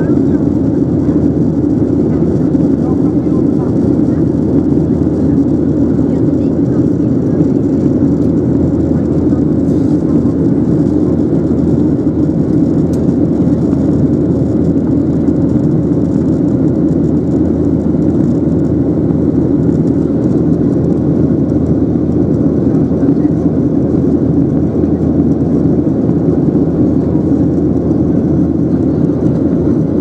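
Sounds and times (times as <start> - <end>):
jet engines and airflow in cabin: 0.0 - 30.0.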